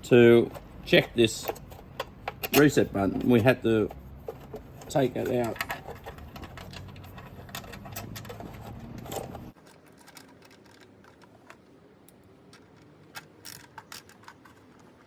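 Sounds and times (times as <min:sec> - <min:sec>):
small parts clicking and tapping: 0:00.3 - 0:15.0.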